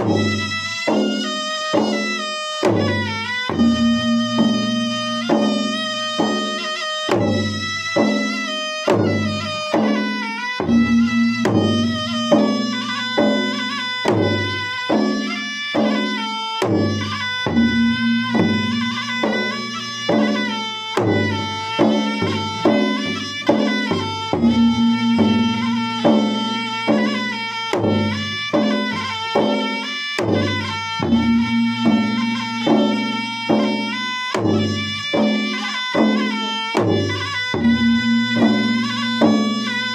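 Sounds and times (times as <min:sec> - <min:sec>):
drums beating fast rhythm: 0:00.0 - 0:39.9
reed pipe melody: 0:00.0 - 0:39.9.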